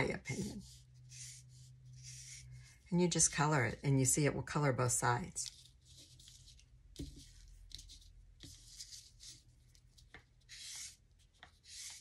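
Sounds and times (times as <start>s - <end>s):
marker scratching on ribbon: 0.0s - 3.8s, 5.4s - 12.0s.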